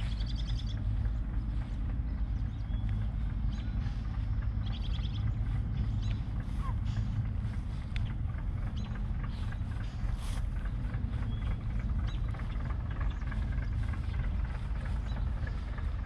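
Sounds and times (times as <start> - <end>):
bird chirps: 0.0 - 16.0
boat engine droning: 0.0 - 16.0.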